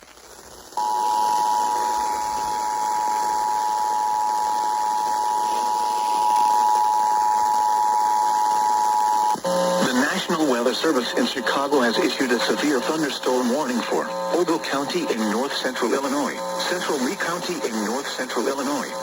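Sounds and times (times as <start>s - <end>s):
radio hiss: 0.0s - 19.0s
two-tone alarm: 0.8s - 19.0s.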